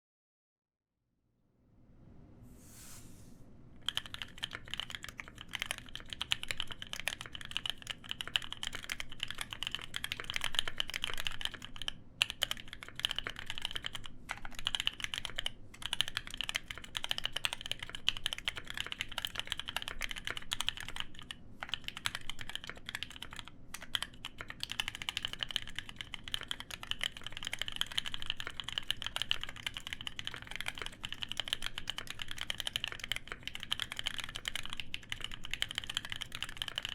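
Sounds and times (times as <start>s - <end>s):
typing on mechanical keyboard: 3.8s - 36.9s.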